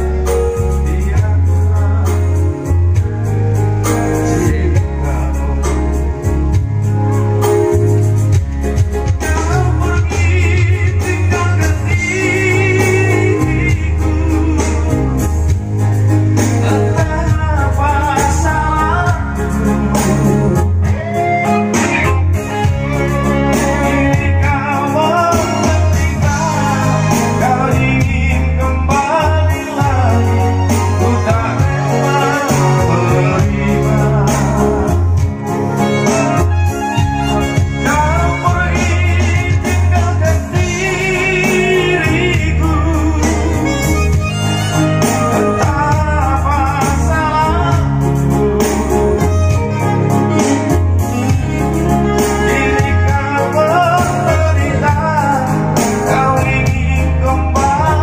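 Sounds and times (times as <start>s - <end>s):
person singing: 0.0s - 6.7s, 8.6s - 58.0s
heavy bass from subwoofers: 0.0s - 58.0s
keyboard music through speakers: 0.0s - 58.0s.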